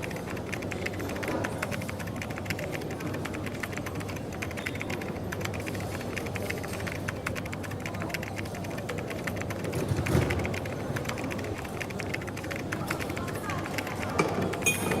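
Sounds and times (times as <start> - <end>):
coffee shop background hum: 0.0 - 15.0
typing on a keyboard: 0.0 - 15.0.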